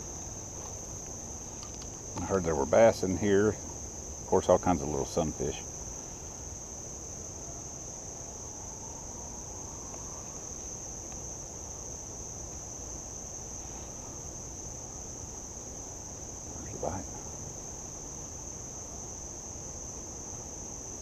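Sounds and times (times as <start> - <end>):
crickets chirping chorus: 0.0 - 21.0
low background rush: 0.0 - 21.0.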